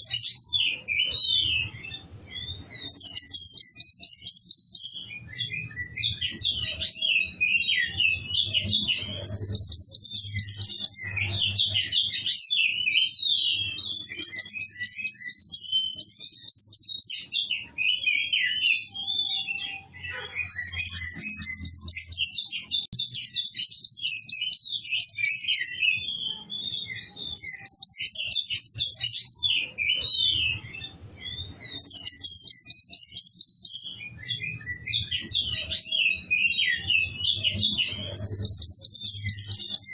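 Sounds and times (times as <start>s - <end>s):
bird song trills and twittering: 0.0s - 39.9s.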